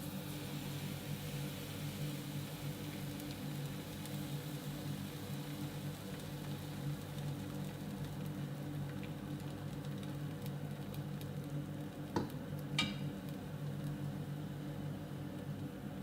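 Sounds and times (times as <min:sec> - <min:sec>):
kitchen appliance electric hum: 0:00.0 - 0:16.0.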